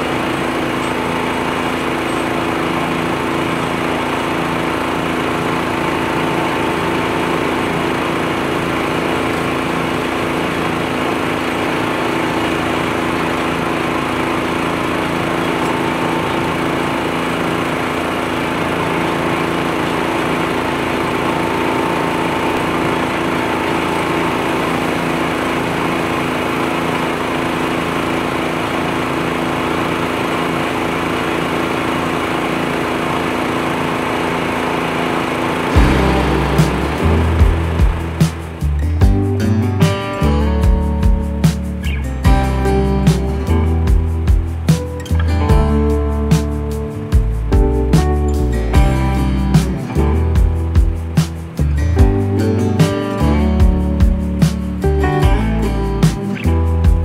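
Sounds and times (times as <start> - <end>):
leaf blower droning: 0.0 - 57.0
tractor engine running: 0.0 - 57.0.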